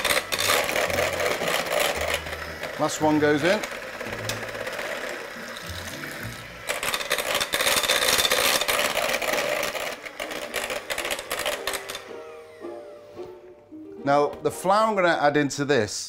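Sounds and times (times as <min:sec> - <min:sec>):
electric hand mixer whisking: 0:00.0 - 0:13.6.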